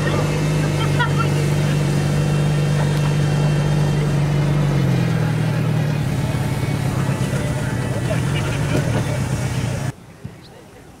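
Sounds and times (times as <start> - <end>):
boat engine running: 0.0 - 9.9.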